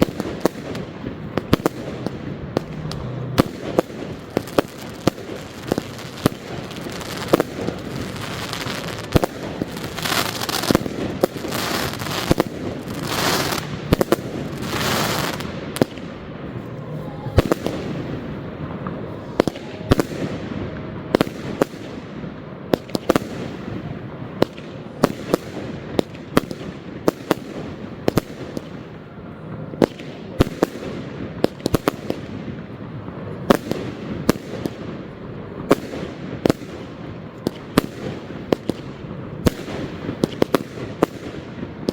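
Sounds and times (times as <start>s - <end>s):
fireworks bangs: 0.0s - 41.9s
hissing fireworks spray: 0.0s - 41.9s.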